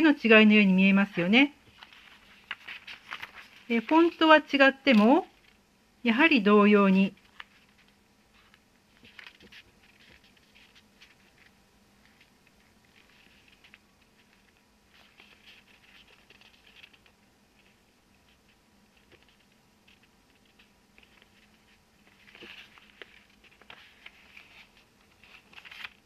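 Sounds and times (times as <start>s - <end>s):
paper sheet rustling and scratching: 1.1s - 4.2s, 7.1s - 26.0s.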